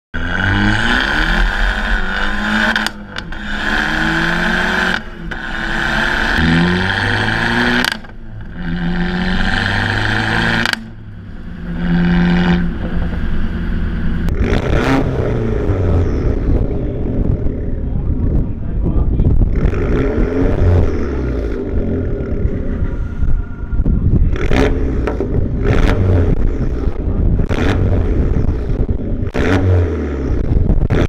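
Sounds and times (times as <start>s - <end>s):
car engine accelerating hard: 0.2s - 31.0s
exhaust cracks: 0.2s - 31.0s.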